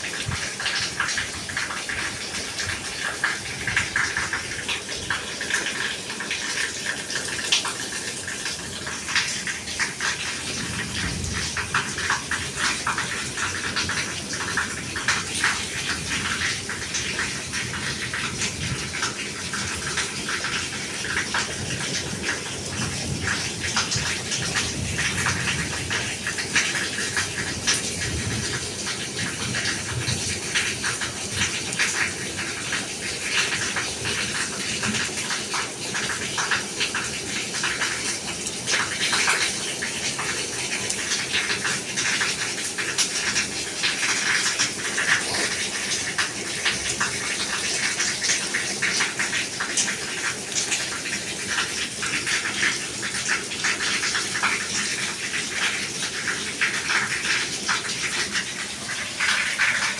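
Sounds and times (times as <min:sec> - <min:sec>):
steady rain: 0:00.0 - 0:59.9
water drips and splashes: 0:00.0 - 0:59.9.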